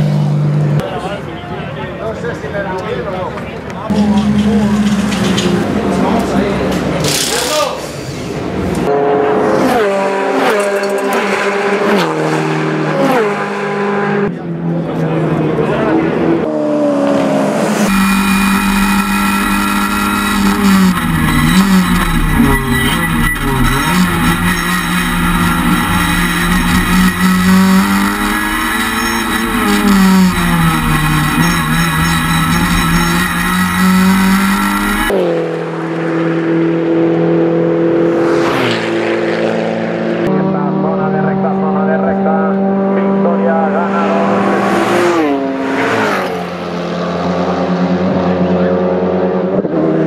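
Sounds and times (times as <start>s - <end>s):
race car engine: 0.0s - 50.0s.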